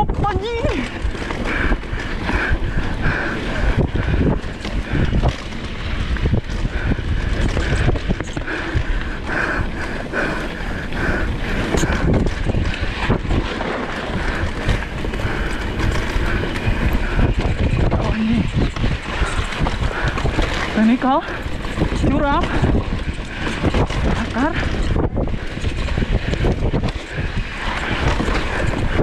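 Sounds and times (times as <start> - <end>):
bike clattering and knocking: 0.0 - 29.0
tyres on dirt: 0.0 - 29.0
wind rushing over microphone: 0.0 - 29.0.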